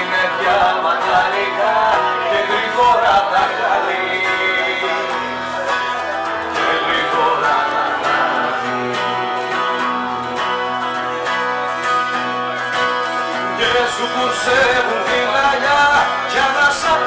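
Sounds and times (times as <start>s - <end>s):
man singing: 0.0s - 10.8s, 13.3s - 17.0s
acoustic guitar strumming: 0.0s - 17.0s.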